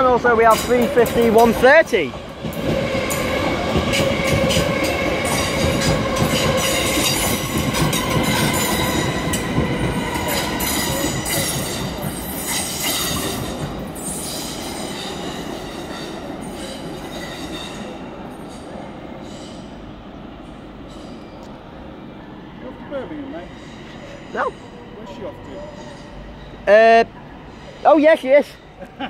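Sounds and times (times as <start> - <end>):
electric train whine: 0.0 - 29.0.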